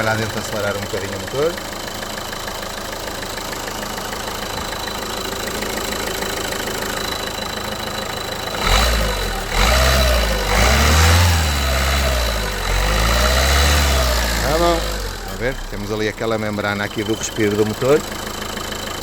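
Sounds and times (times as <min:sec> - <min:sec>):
diesel engine idling and revving: 0:00.0 - 0:19.0.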